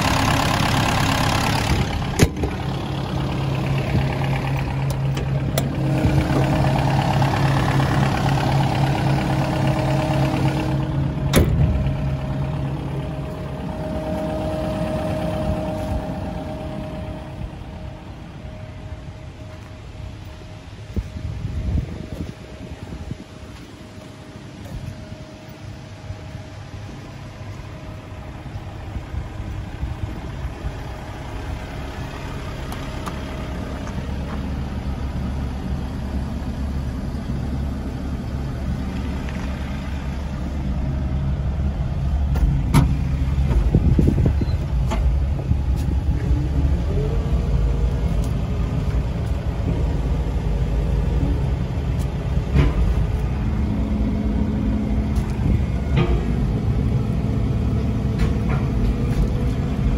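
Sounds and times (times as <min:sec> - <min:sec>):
diesel engine running: 0:00.0 - 0:59.9
rising whine: 0:00.0 - 0:59.9.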